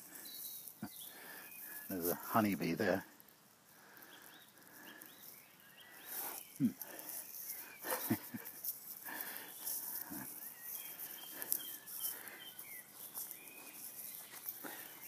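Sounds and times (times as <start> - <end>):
faint background rustle: 0.0 - 15.0
songbirds singing: 0.0 - 15.0.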